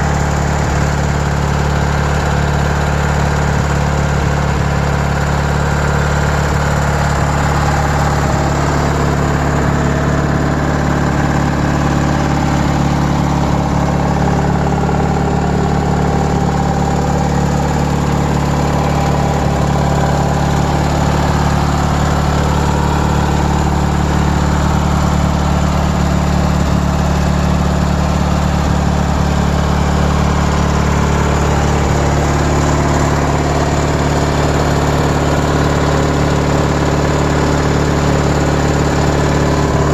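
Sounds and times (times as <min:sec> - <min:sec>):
riding lawn mower engine running: 0:00.0 - 0:39.9.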